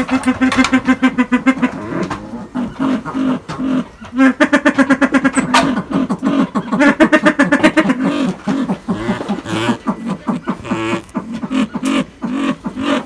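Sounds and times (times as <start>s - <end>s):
guineafowl calling: 0.0s - 13.0s.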